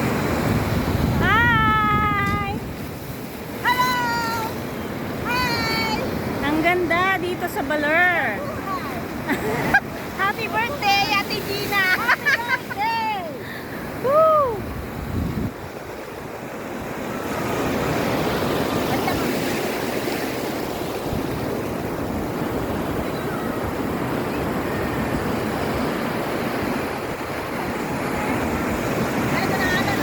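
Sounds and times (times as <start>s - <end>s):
waves breaking: 0.0s - 30.0s.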